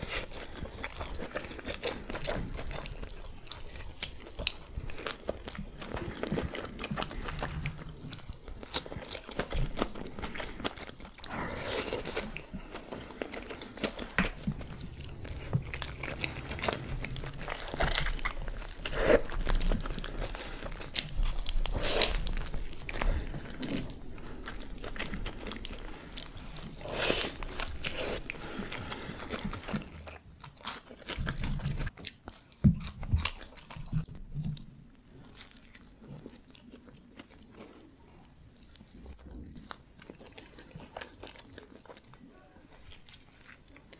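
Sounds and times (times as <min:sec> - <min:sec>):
chewing and biting food: 0:00.0 - 0:43.9.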